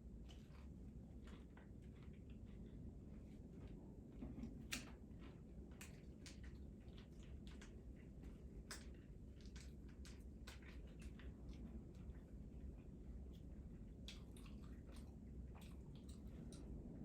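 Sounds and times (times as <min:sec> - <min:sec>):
person chewing food: 0:00.2 - 0:17.0.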